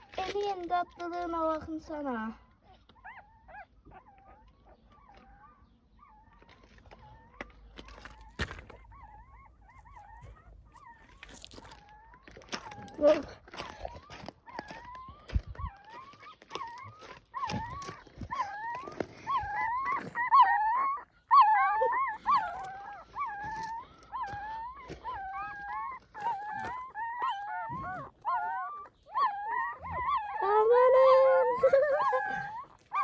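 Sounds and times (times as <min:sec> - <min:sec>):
puppies whining: 0:00.0 - 0:33.0.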